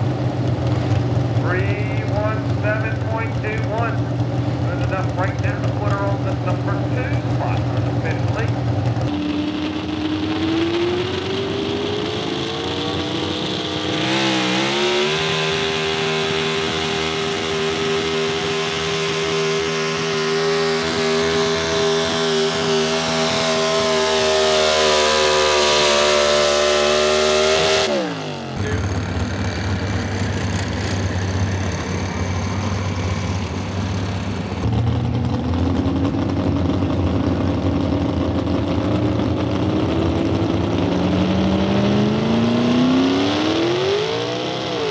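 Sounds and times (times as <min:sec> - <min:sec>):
truck engine at full throttle: 0:00.0 - 0:44.9
truck engine running rough: 0:00.0 - 0:44.9.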